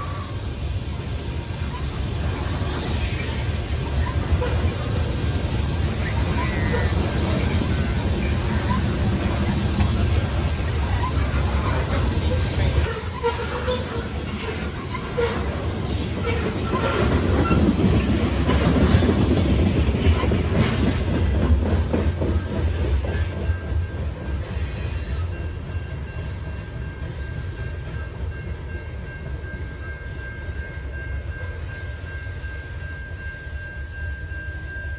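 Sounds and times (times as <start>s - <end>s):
freight train rolling past: 0.0s - 34.9s.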